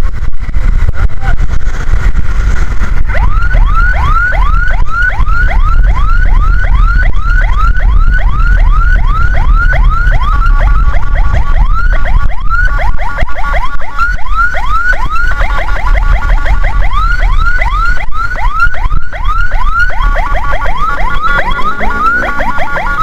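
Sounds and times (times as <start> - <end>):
engine and road rumble: 0.0 - 23.0
ambulance siren yelping: 3.0 - 23.0.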